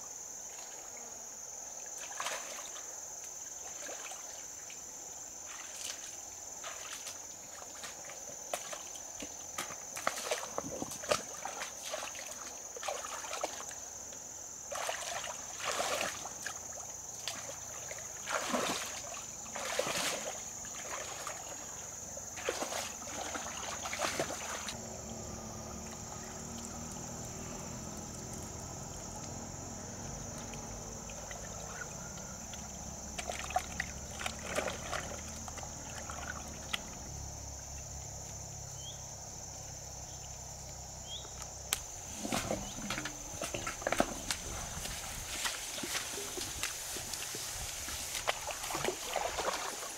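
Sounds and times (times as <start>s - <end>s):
water splashing and sloshing: 1.8s - 38.2s, 41.7s - 49.9s.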